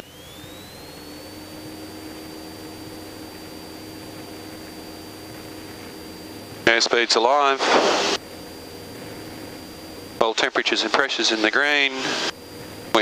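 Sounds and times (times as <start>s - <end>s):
propeller plane engine hum: 0.0s - 13.0s
thin high whine: 0.0s - 13.0s.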